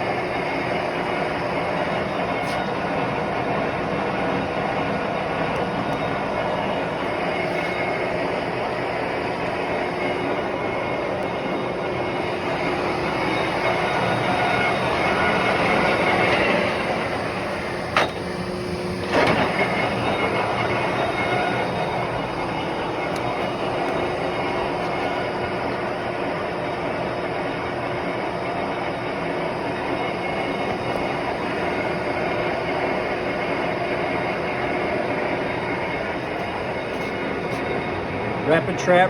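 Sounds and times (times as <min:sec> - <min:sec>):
lathe running: 0:00.0 - 0:39.0.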